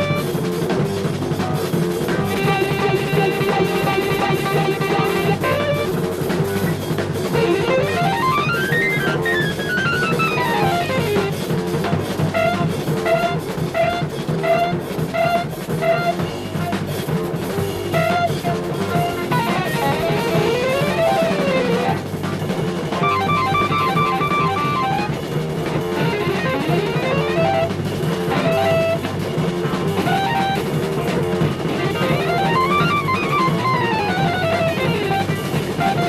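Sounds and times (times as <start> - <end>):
drum kit: 0.0 - 36.0
electric guitar: 0.0 - 36.0
jazz-rock band playing live: 0.0 - 36.0.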